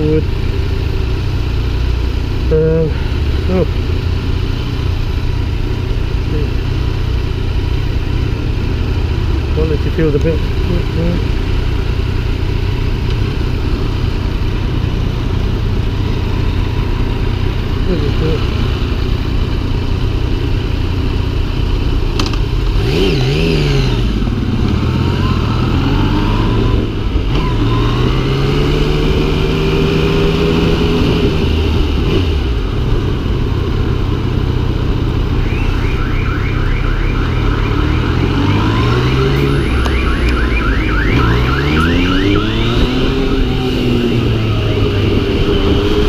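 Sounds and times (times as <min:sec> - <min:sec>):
motorcycle engine revving: 0:00.0 - 0:46.0
road and wind noise: 0:00.0 - 0:46.0.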